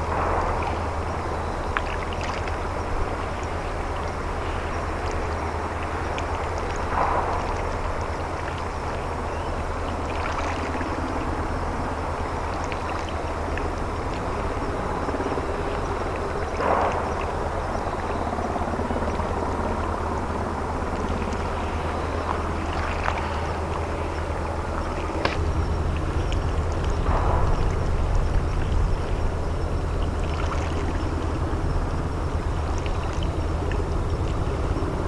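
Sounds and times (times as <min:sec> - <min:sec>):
boat diesel engine humming: 0:00.0 - 0:35.0.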